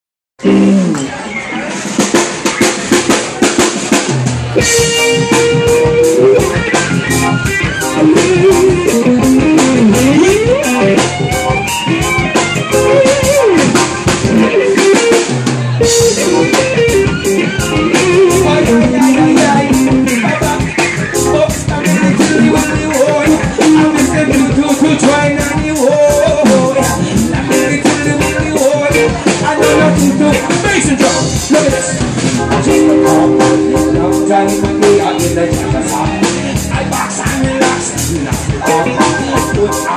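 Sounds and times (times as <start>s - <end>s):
bass guitar: 0.4s - 39.9s
drum kit steady beat: 0.4s - 39.9s
electric guitar: 0.4s - 39.9s
keyboard: 0.4s - 39.9s.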